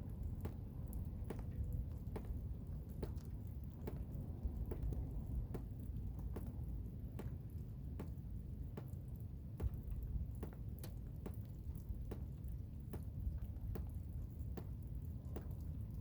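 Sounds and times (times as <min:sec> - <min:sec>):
sharp ticks and pats: 0:00.0 - 0:16.0.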